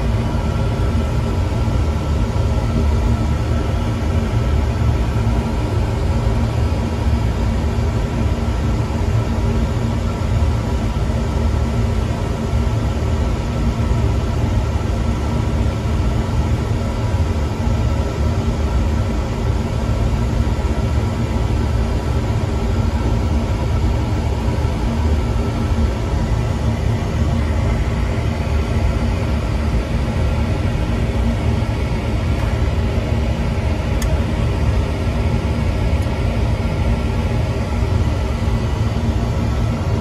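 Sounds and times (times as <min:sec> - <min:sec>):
faint tonal hum: 0:00.0 - 0:40.0
oil burner low rumble: 0:00.0 - 0:40.0.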